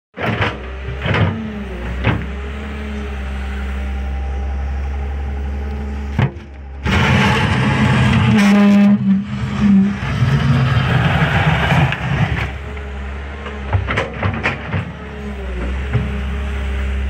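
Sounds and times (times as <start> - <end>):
diesel engine running: 0.2 - 17.0.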